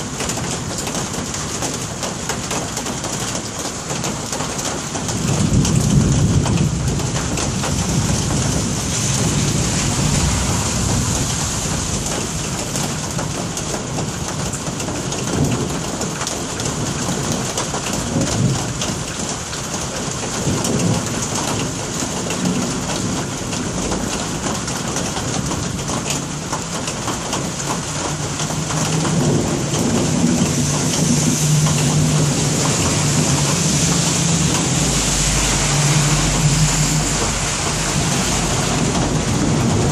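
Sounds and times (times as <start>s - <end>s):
heavy rain falling: 0.0s - 39.9s
thunder rumbling: 4.8s - 19.3s, 20.1s - 39.9s.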